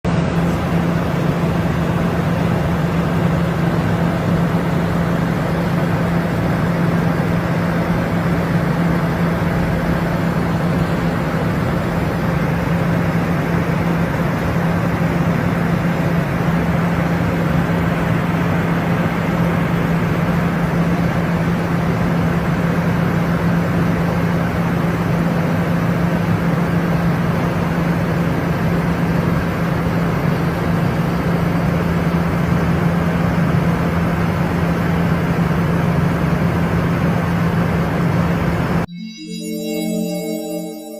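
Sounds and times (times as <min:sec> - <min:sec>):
constant low hum: 0:00.1 - 0:38.9.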